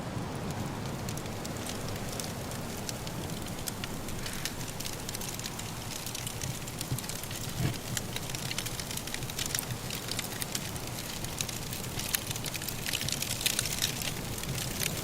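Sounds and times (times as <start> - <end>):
low rush of wind: 0.0 - 15.0
firewood crackling and popping: 0.1 - 15.0.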